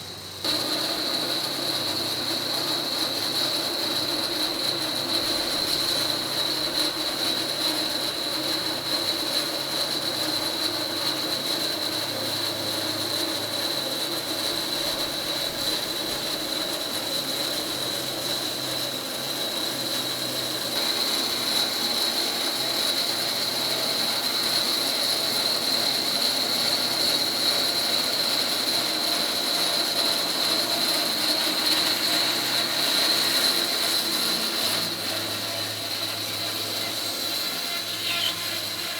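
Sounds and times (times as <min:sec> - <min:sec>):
sawmill cutting log: 0:00.0 - 0:38.9.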